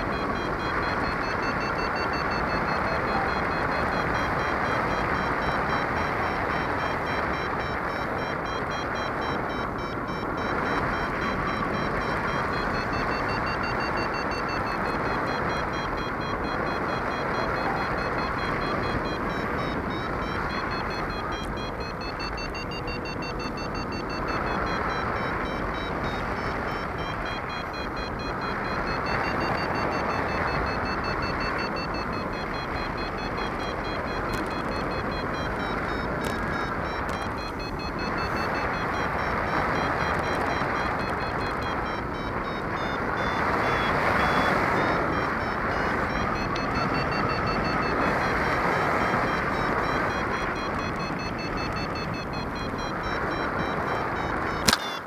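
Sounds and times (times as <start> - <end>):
variometer beeping: 0.0 - 55.0.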